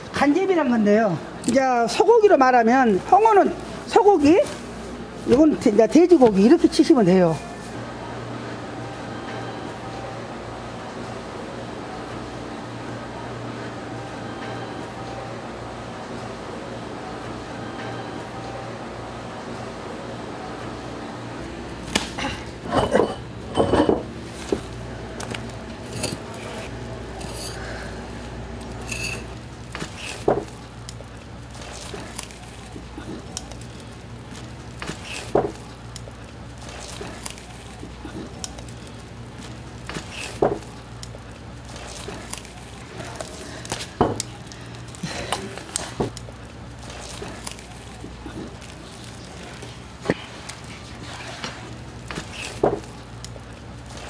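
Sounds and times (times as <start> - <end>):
faint background hum: 0.0 - 54.0.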